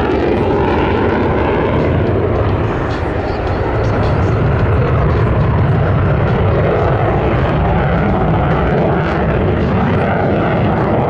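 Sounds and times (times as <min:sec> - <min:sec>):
fighter jet roar: 0:00.0 - 0:11.0.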